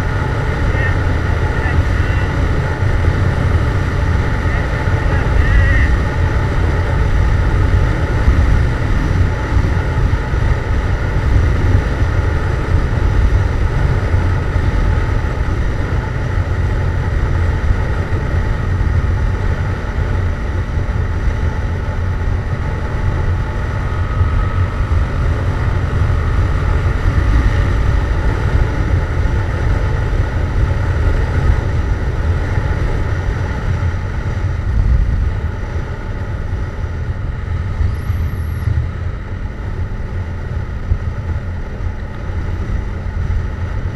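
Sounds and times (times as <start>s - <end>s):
motorcycle engine cruising: 0.0s - 43.9s
wind rumble on microphone: 0.0s - 43.9s.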